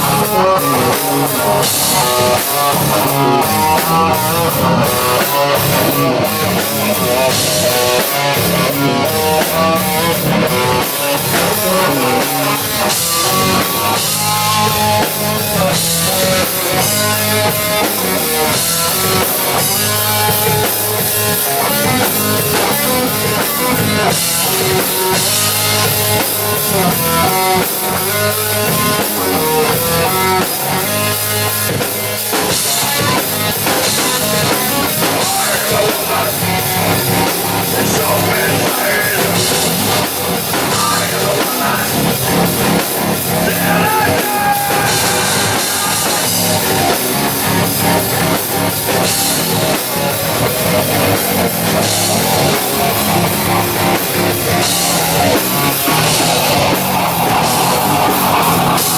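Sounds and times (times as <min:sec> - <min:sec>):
bass: 0:00.0 - 0:58.9
drum kit: 0:00.0 - 0:58.9
electric guitar: 0:00.0 - 0:58.9
rock band playing: 0:00.0 - 0:58.9.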